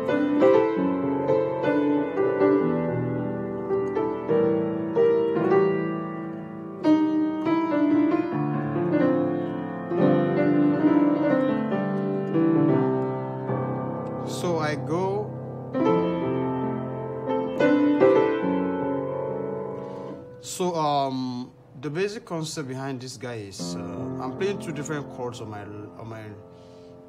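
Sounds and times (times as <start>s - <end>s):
piano chords: 0.0s - 27.0s.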